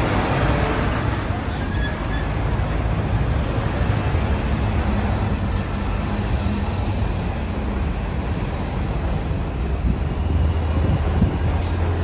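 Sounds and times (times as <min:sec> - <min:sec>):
buses and cars passing: 0:00.0 - 0:12.0
road noise: 0:00.0 - 0:12.0.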